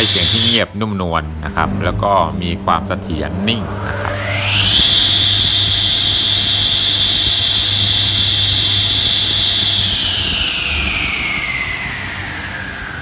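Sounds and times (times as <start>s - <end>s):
table saw whining: 0.0s - 0.6s, 3.2s - 13.0s.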